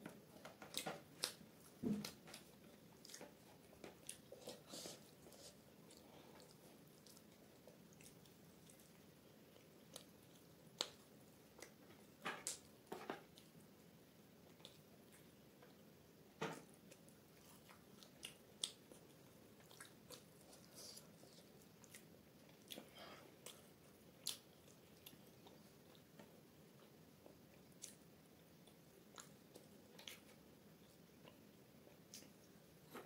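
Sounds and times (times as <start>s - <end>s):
chewing soft food: 0.1s - 33.0s.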